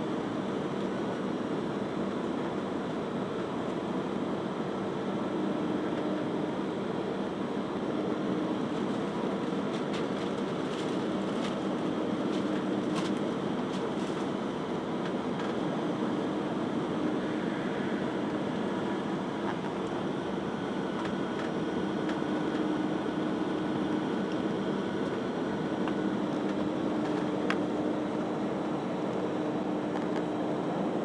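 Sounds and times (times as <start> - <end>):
aircraft cabin engine noise: 0.0 - 31.0.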